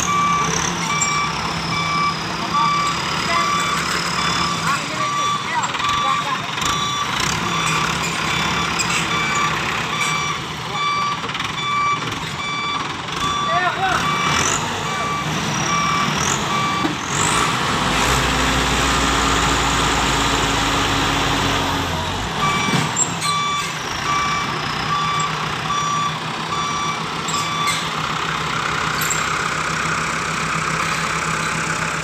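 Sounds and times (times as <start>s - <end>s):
diesel engine running under load: 0.0s - 32.0s
truck reversing alarm beeps: 0.0s - 32.0s.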